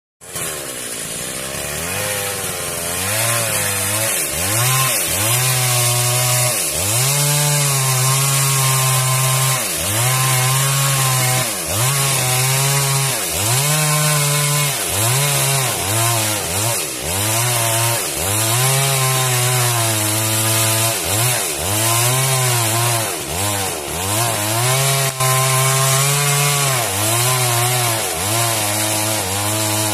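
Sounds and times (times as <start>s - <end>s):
chainsaw running: 0.2s - 29.9s.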